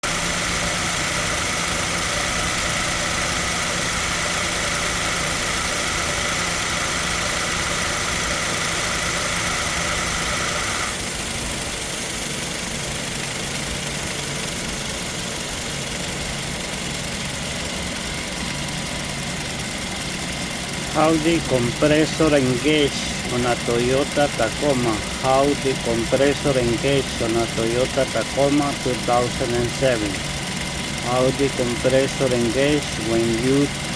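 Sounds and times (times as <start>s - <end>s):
ac compressor whine and hum: 0.0s - 33.9s
car engine idling: 0.0s - 33.9s.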